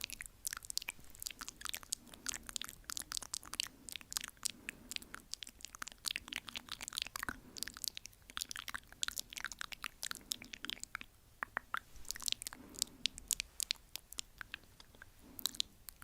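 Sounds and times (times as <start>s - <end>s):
wet mouth clicks: 0.0s - 16.0s.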